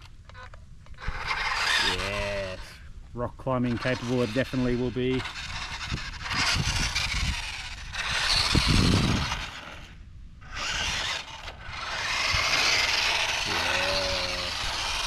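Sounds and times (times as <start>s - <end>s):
plastic tyres grinding on concrete: 0.0s - 2.6s, 3.6s - 15.0s
toy truck electric motor and gears: 0.0s - 2.7s, 3.6s - 15.0s.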